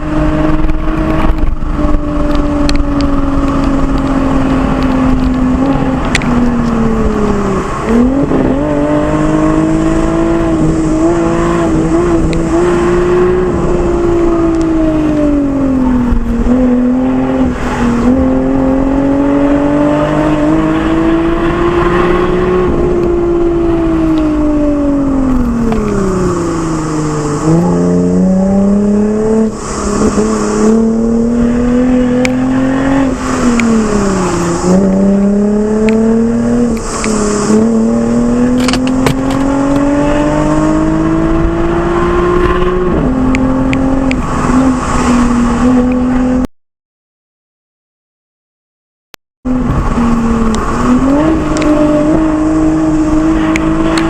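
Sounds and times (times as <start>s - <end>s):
car engine accelerating: 0.0s - 46.5s, 49.5s - 54.0s.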